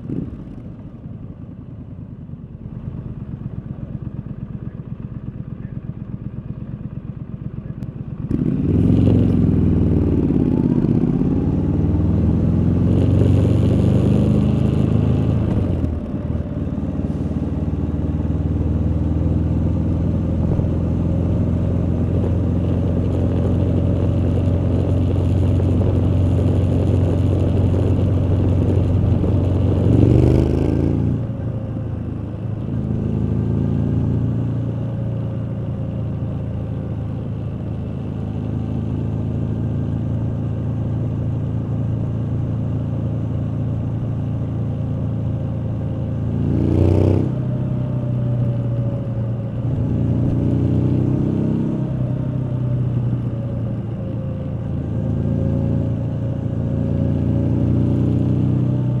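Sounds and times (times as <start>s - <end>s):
motorcycle engine revving: 1.8s - 59.0s.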